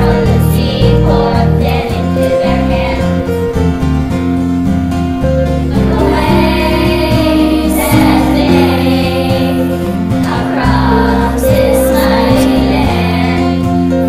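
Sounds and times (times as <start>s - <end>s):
choir singing in unison: 0.0s - 3.5s, 5.7s - 14.0s
instrumental accompaniment: 0.0s - 14.0s.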